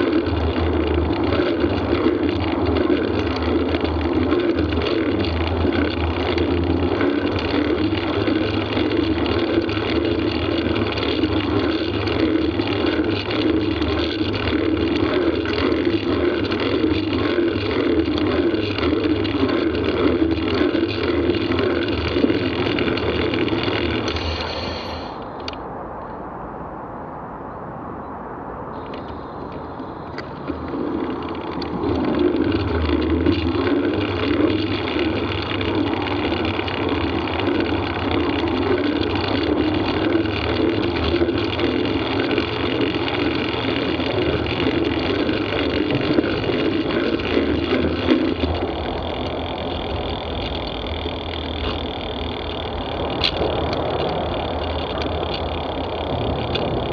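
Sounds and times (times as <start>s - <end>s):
bicycle tyre and wind rumble: 0.0s - 56.9s.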